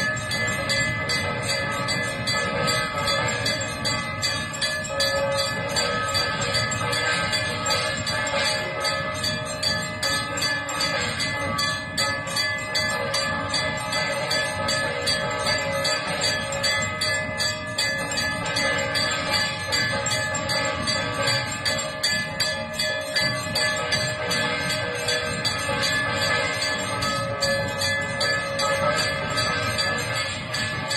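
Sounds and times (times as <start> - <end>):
temple bells ringing rapidly: 0.0 - 30.9.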